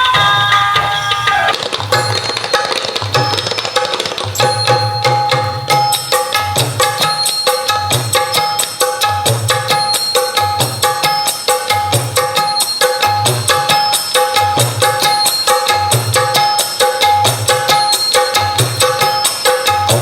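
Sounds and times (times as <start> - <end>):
music with fast percussion: 0.0 - 20.0.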